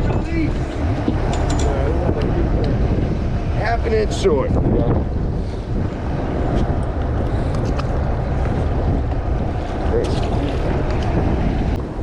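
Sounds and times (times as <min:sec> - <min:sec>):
boat engine rumble: 0:00.0 - 0:12.0
sea: 0:00.0 - 0:12.0
wind buffeting microphone: 0:00.0 - 0:12.0.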